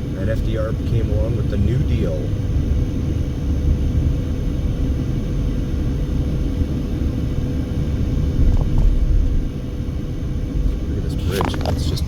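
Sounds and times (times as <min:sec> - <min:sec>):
car road and engine rumble: 0:00.0 - 0:12.0
faint steady hum: 0:00.0 - 0:12.0.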